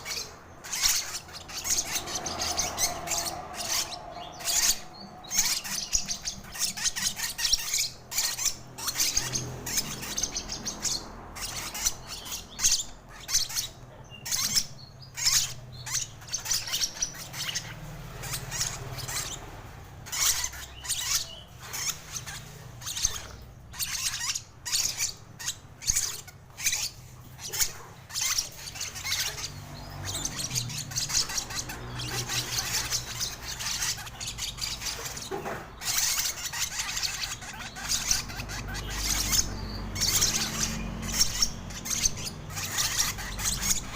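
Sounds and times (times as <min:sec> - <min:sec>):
lovebird chirping: 0:00.0 - 0:43.9.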